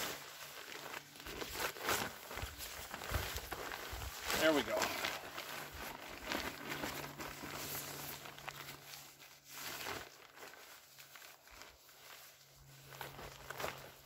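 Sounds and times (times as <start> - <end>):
nylon poncho rustling: 0.0 - 14.0.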